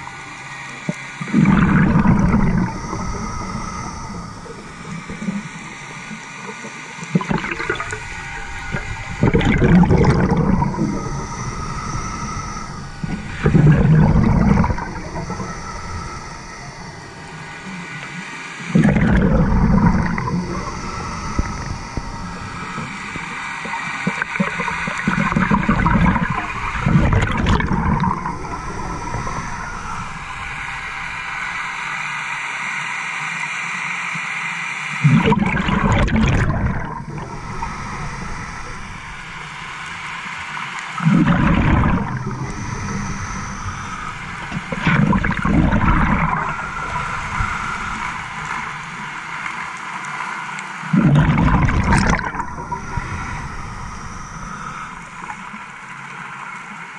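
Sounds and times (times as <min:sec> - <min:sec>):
bubbling exhaled air underwater: 0:00.0 - 0:31.9, 0:35.0 - 0:49.8, 0:50.8 - 0:56.1
regulator hiss: 0:00.0 - 0:56.9.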